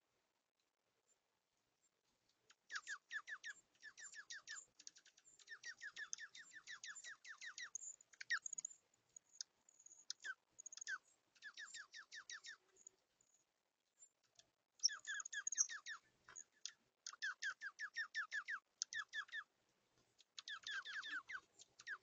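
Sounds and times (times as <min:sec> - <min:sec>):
small bird chirping: 0:01.8 - 0:22.0.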